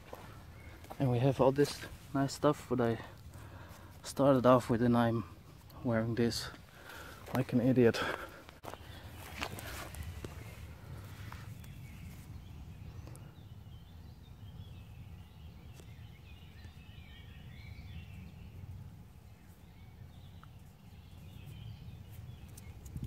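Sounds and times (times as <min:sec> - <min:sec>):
birds singing faintly: 0:00.0 - 0:23.0
low steady rumble: 0:00.0 - 0:23.0.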